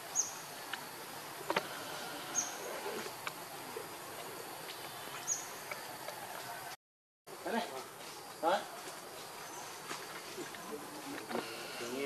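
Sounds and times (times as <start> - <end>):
insect hum: 0.0 - 12.0.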